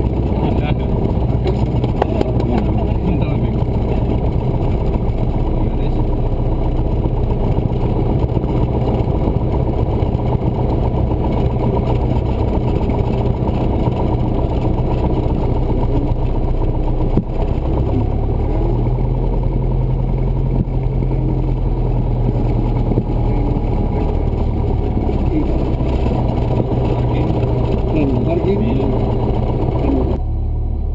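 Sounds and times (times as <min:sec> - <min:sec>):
propeller plane engine in cabin: 0:00.0 - 0:30.9.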